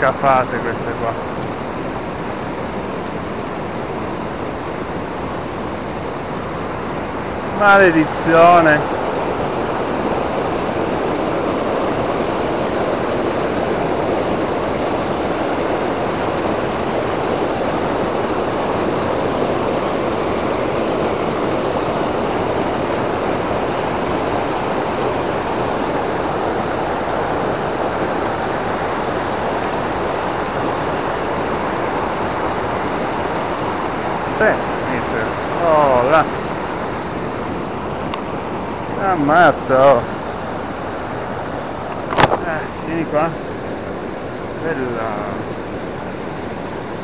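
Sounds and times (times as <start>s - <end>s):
mountain torrent rushing over rocks: 0.0s - 47.0s.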